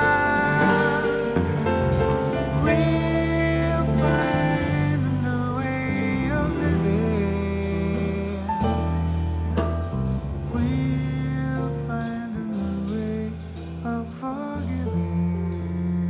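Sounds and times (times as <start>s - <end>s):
man singing: 0.0s - 9.1s, 10.4s - 16.0s
drum kit: 0.0s - 16.0s
electric bass guitar: 0.0s - 16.0s
grand piano: 0.0s - 16.0s.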